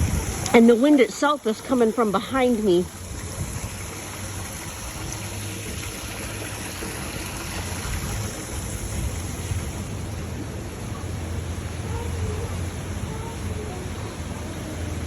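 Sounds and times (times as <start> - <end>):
rain rushing: 0.0 - 15.0
wind rumbling on microphone: 0.0 - 15.0.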